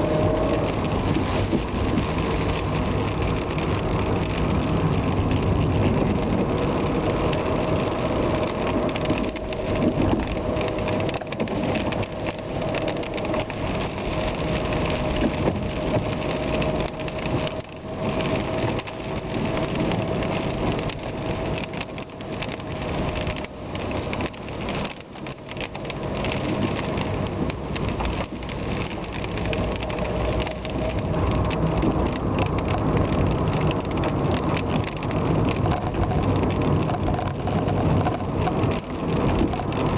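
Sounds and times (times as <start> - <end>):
falling rain: 0.0 - 39.9
vehicle engine: 0.0 - 39.9.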